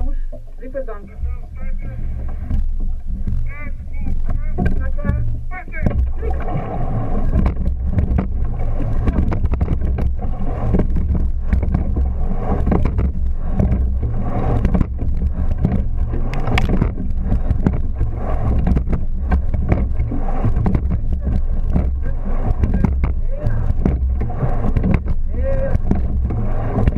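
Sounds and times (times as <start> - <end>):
oars knocking: 0.0 - 26.9
rushing water: 0.0 - 26.9
wind on microphone: 0.0 - 26.9.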